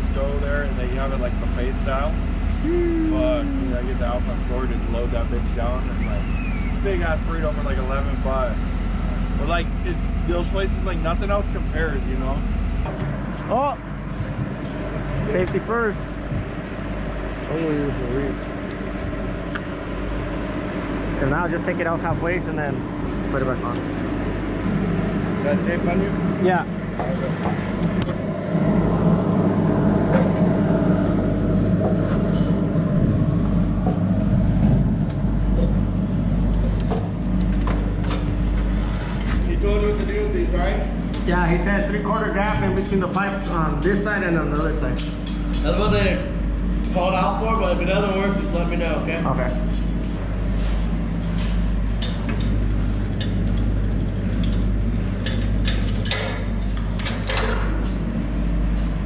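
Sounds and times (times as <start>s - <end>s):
heavy machinery droning: 0.0s - 59.0s.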